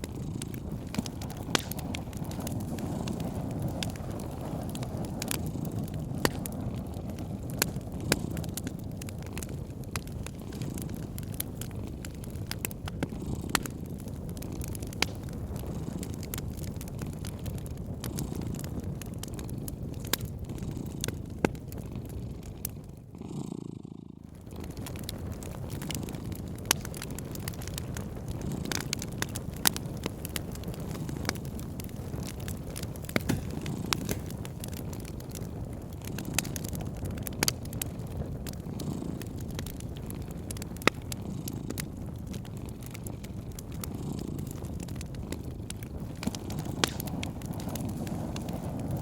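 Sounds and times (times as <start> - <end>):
cat purring: 0.0 - 49.0
wood fire crackling: 0.0 - 49.0.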